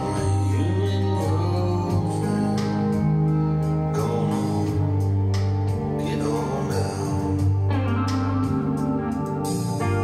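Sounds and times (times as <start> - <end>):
music with long held chords: 0.0 - 10.0.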